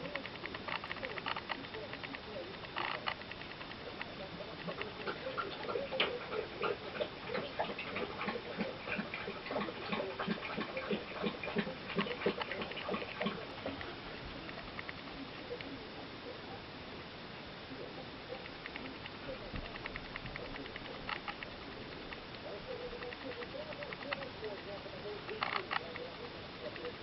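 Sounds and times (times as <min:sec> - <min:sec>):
woodpecker pecking: 0:00.0 - 0:15.8, 0:18.2 - 0:27.0.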